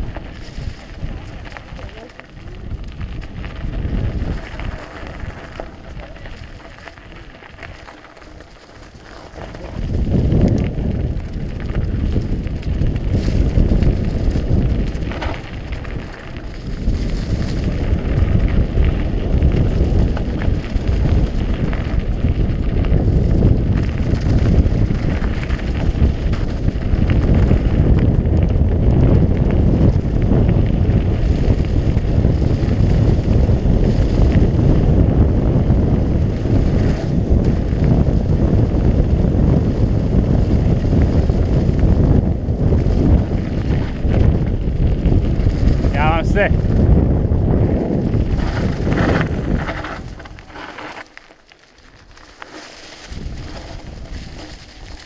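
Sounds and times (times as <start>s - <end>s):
wind buffeting microphone: 0.0s - 51.0s, 51.9s - 55.0s
bike tyre rumble over earth: 0.0s - 55.0s.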